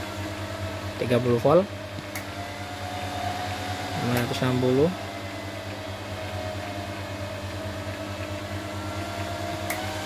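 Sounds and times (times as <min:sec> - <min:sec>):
cooling fan humming: 0:00.0 - 0:10.0
faint steady whine: 0:00.0 - 0:10.0.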